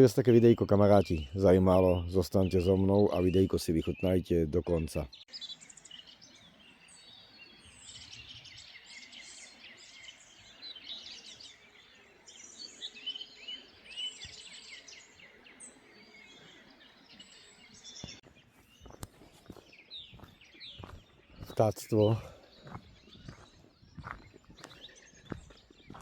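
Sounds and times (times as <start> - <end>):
songbirds chirping and trilling: 0.0 - 26.0.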